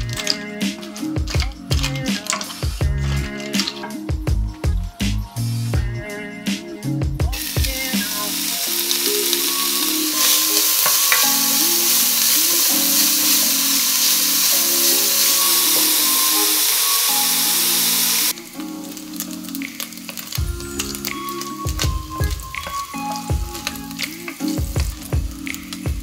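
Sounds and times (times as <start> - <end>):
bacon sizzling in a pot: 0.0 - 4.4, 7.3 - 26.0
wooden spoon stirring: 0.0 - 4.4, 7.3 - 26.0.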